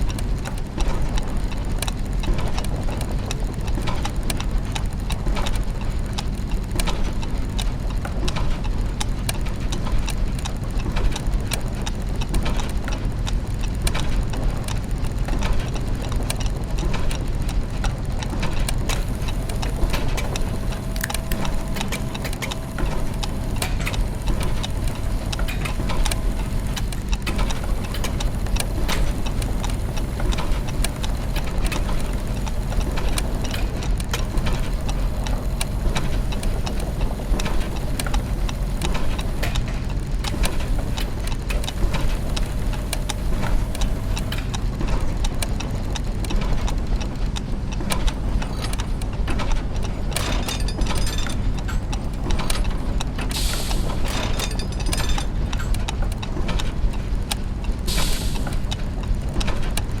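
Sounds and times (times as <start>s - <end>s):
gears clicking and ticking: 0.0s - 60.0s
low machine hum: 0.0s - 60.0s.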